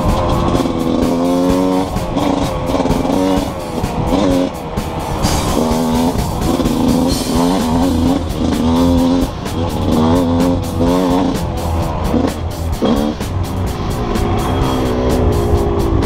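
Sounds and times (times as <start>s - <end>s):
background music: 0.0s - 16.0s
dirt bike engine revving: 0.0s - 16.0s.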